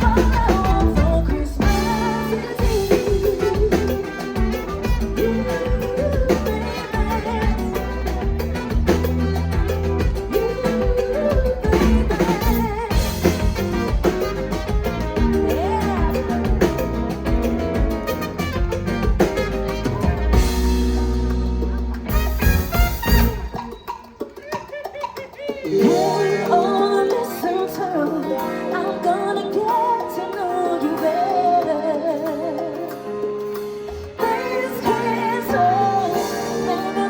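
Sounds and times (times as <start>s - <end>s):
live latin pop band: 0.0s - 37.0s.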